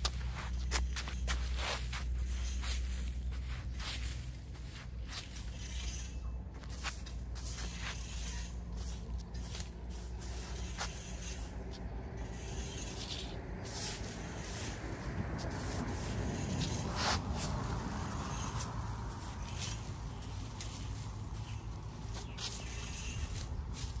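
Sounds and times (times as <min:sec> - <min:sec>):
broom sweeping on concrete: 0:00.0 - 0:24.0.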